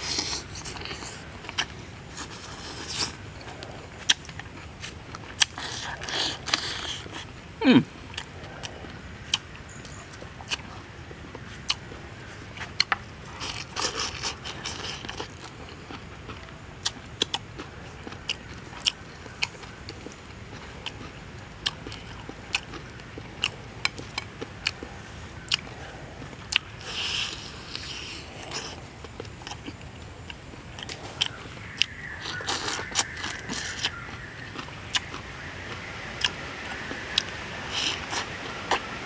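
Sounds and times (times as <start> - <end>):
crunchy chewing: 0.0 - 39.0.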